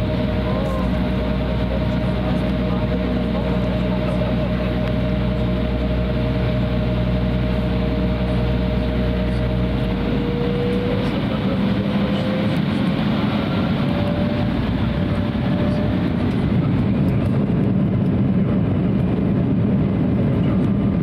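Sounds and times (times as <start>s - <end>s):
low drone: 0.0s - 21.0s
thin engine whine: 0.0s - 21.0s
turbofan engines humming: 0.0s - 21.0s.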